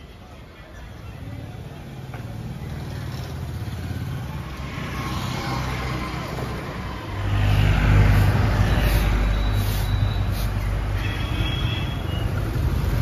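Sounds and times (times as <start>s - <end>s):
motorbikes and scooters passing: 0.6s - 13.0s.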